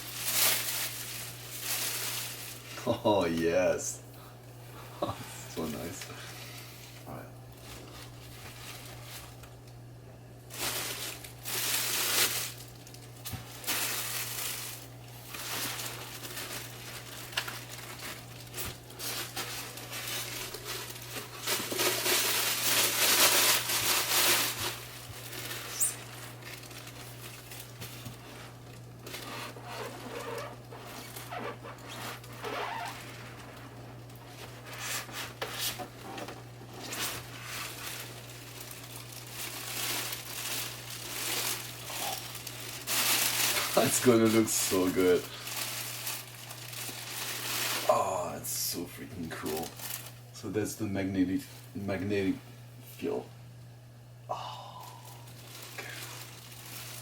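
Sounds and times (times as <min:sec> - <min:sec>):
plastic and foam crinkling: 0:00.0 - 0:03.9, 0:05.0 - 0:09.6, 0:10.4 - 0:50.5, 0:54.8 - 0:57.0
steady low hum: 0:00.0 - 0:57.0.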